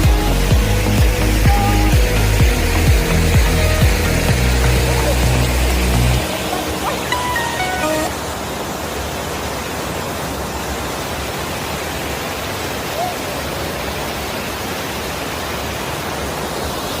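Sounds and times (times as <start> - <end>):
stream and waterfall rushing: 0.0 - 17.0.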